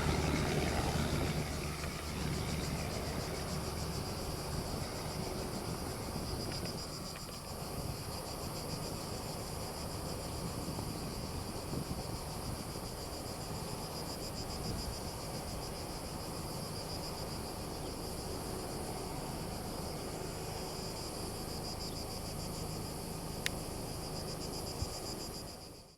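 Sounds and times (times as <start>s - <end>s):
insects chirping: 0.0s - 25.9s.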